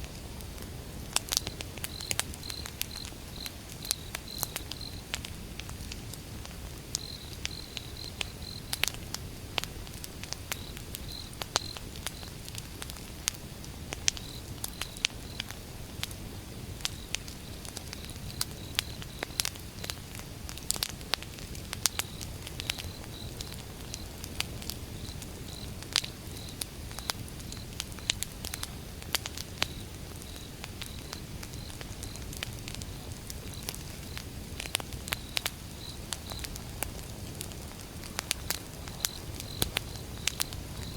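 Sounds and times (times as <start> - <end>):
firewood crackling and popping: 0.0 - 40.9
low rumble of flames: 0.0 - 40.9.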